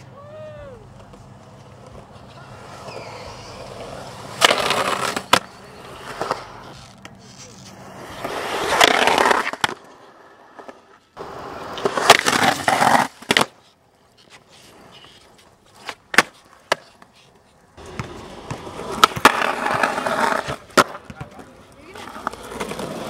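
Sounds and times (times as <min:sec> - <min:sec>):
skateboard wheels rolling on concrete: 0:00.0 - 0:23.0
skateboard grinding on concrete: 0:00.9 - 0:23.0
skateboard popping and landing: 0:00.9 - 0:23.0.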